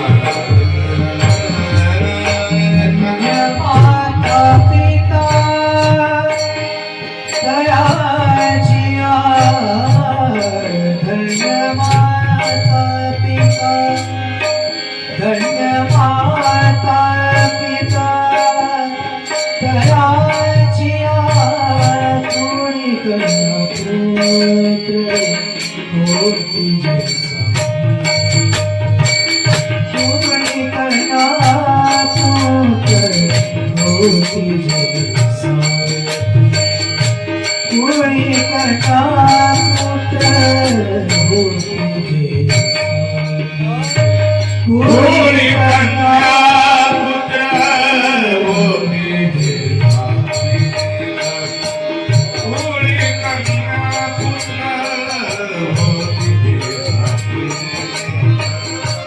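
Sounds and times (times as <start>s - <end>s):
hand cymbals: 0.0s - 59.0s
harmonium drone: 0.0s - 59.0s
tabla drumming: 0.0s - 59.0s.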